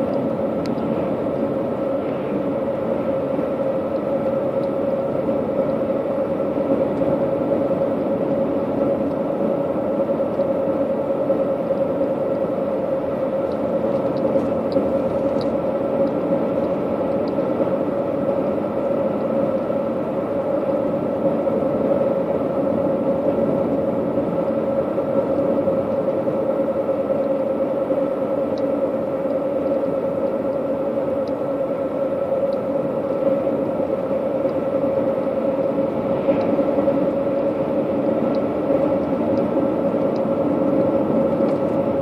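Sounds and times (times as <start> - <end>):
car road and engine noise: 0.0 - 42.0.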